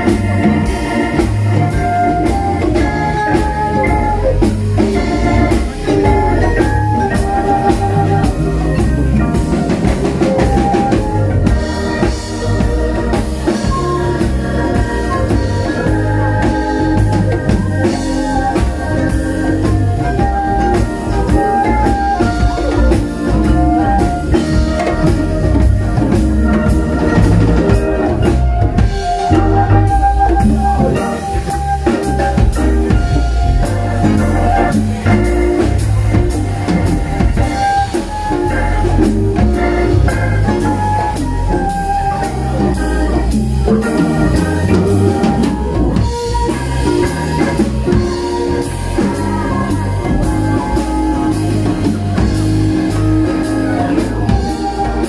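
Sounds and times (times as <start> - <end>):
live band instrumental: 0.0 - 55.0
organ: 0.0 - 55.0.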